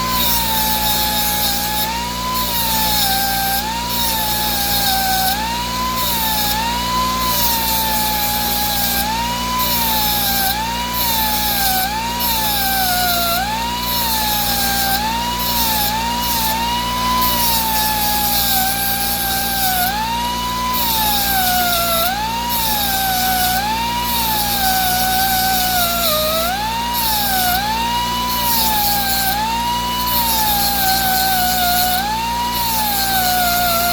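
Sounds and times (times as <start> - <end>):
die grinder whine: 0.0 - 33.9.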